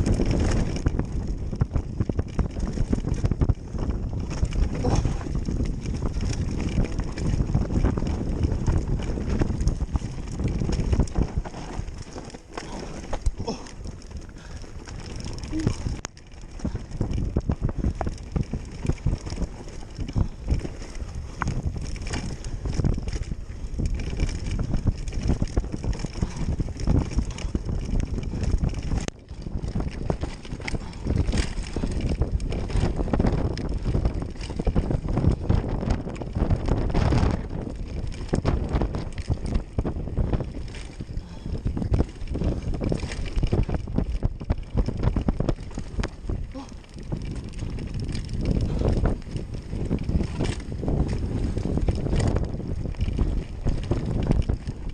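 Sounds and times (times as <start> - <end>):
bike rattling over dirt trail: 0.0 - 54.9
wind buffeting microphone: 0.0 - 54.9.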